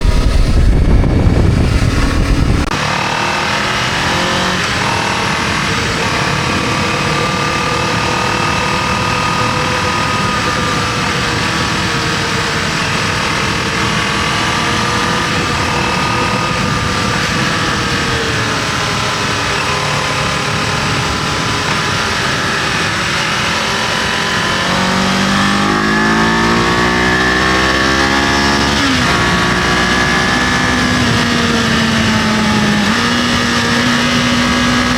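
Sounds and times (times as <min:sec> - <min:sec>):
motorcycle engine running: 0:00.0 - 0:34.9
wind buffeting: 0:00.0 - 0:34.9.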